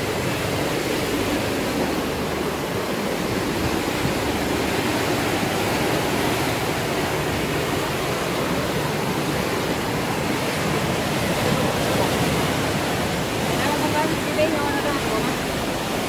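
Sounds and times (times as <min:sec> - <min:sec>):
sea surf breaking on rocks: 0:00.0 - 0:16.0
wind: 0:00.0 - 0:16.0.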